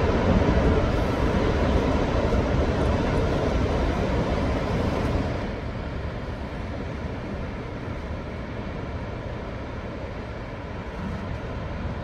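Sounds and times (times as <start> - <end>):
wind roaring: 0.0 - 12.0
wind rumble on microphone: 0.0 - 12.0.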